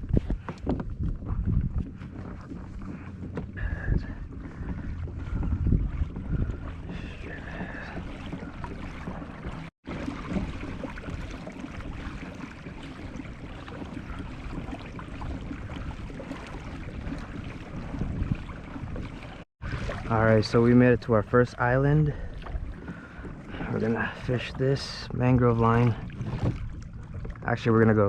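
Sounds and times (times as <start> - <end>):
water washing along kayak hull: 0.0 - 28.0
wind buffeting microphone: 0.0 - 28.0.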